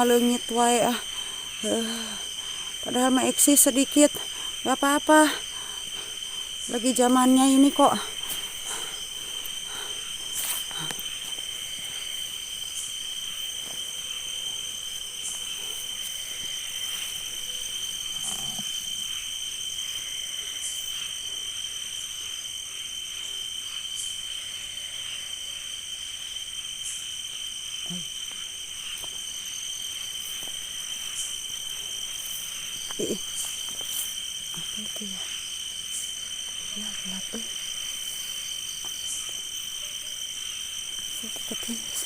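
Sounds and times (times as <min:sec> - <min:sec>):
crickets chirring: 0:00.0 - 0:42.0.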